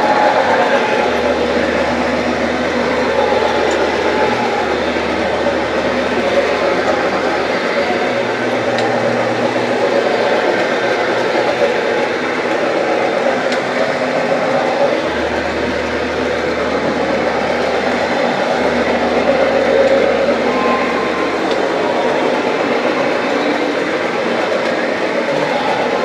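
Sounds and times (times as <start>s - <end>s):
carpet brush machine running: 0.0s - 26.0s.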